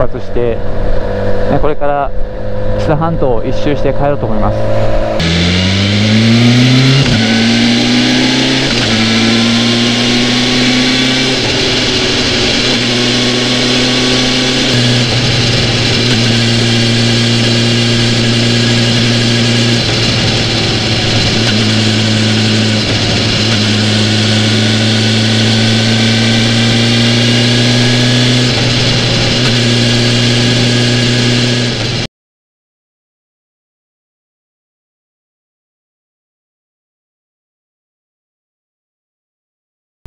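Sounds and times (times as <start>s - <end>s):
motorcycle engine accelerating: 0.0s - 32.1s.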